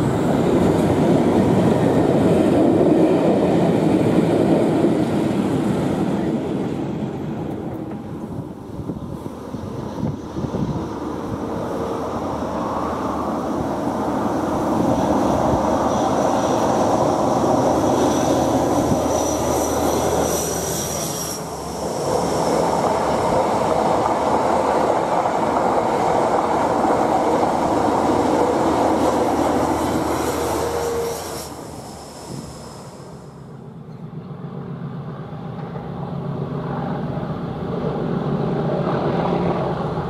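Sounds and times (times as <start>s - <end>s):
diesel train engines passing: 0.0s - 40.0s.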